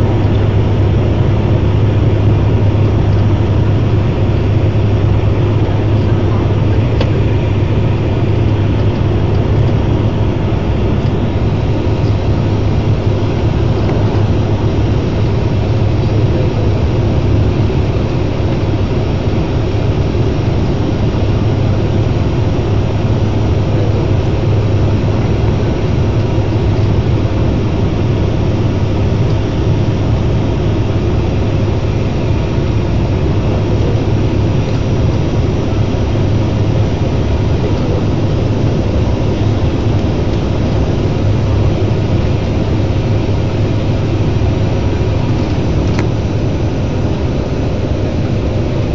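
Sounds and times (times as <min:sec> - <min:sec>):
propeller airliner cabin drone: 0:00.0 - 0:48.9.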